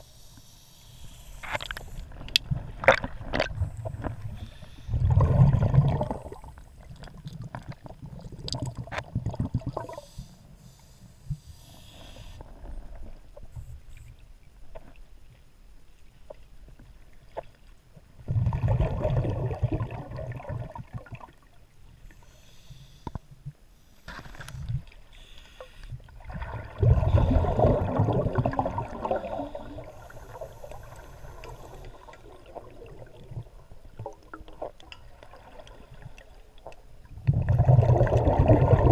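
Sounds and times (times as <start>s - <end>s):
underwater bubbling: 0.0s - 23.6s, 24.4s - 38.9s.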